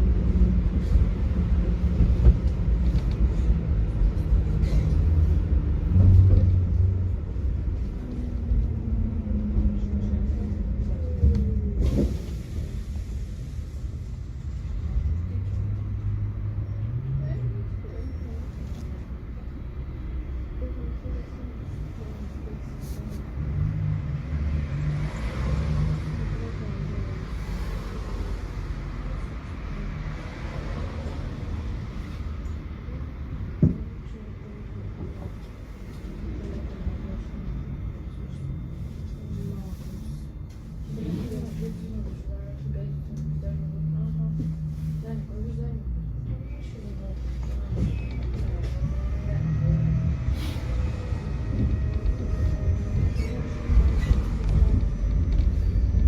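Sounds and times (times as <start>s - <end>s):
tram running on rails: 0.0s - 56.0s
tram motor whine: 5.2s - 56.0s.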